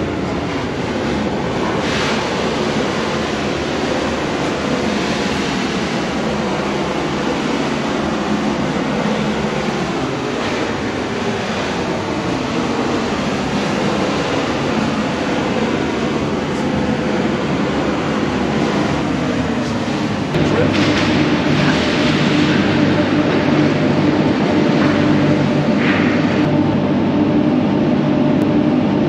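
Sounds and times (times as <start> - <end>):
vehicle engine and tyre noise: 0.0 - 29.0.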